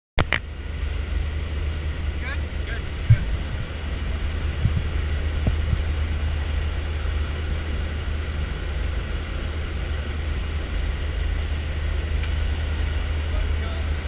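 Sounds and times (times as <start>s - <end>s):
aircraft engine drone: 0.2s - 14.0s.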